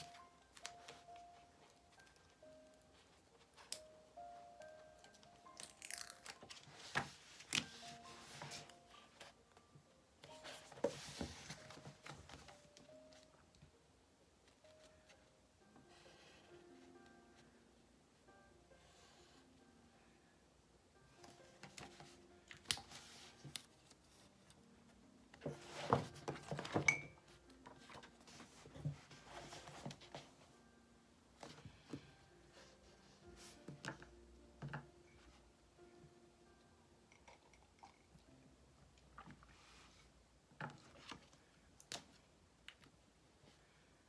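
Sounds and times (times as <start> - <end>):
faint background music: 0.0 - 44.0.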